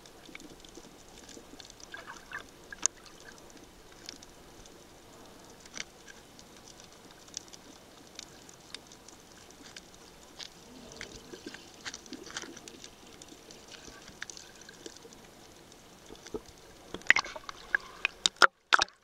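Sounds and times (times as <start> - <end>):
underwater hiss with clicks: 0.0 - 18.9
water splashing: 0.0 - 19.0.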